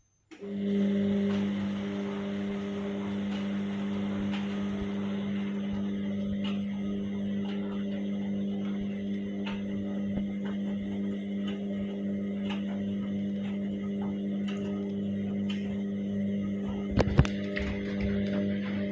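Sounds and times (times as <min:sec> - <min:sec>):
washing machine humming: 0:00.0 - 0:18.9.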